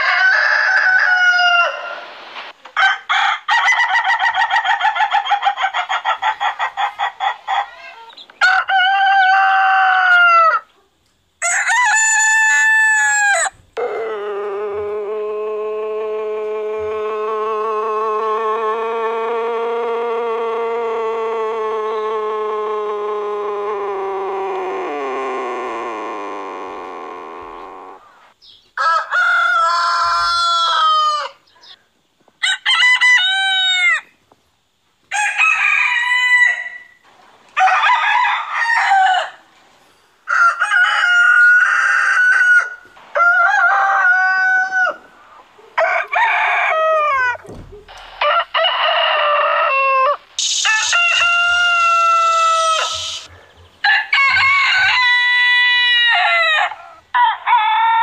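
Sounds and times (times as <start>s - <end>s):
roosters crowing: 0.0s - 10.7s, 11.4s - 31.8s, 32.4s - 34.2s, 35.1s - 39.6s, 40.2s - 58.0s.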